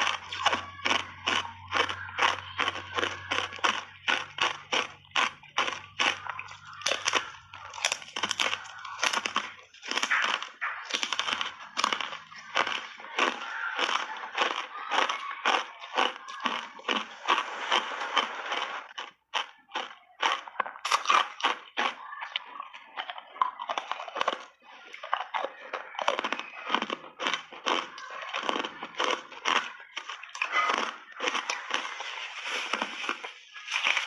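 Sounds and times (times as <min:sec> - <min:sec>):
ice crunching while chewed: 0:00.0 - 0:34.0.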